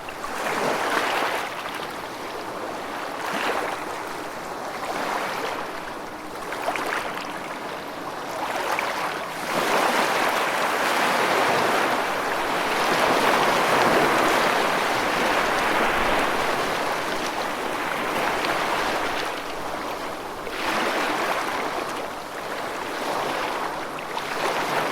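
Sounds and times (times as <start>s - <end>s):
ocean waves washing onto shore: 0.0s - 24.9s.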